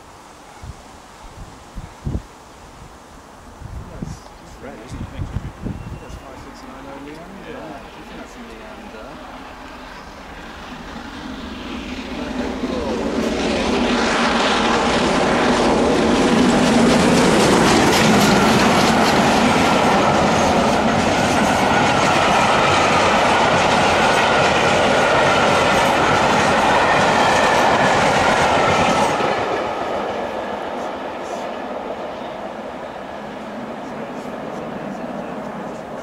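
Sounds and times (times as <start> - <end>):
train wheels rushing on rail: 3.9 - 36.0.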